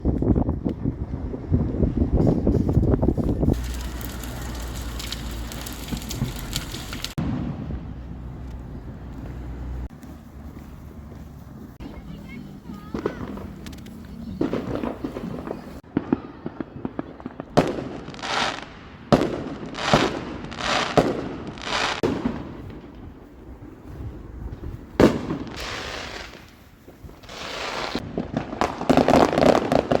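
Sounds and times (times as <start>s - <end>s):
fireworks crackling: 1.6s - 30.0s
fireworks bangs: 2.1s - 9.9s, 11.8s - 30.0s.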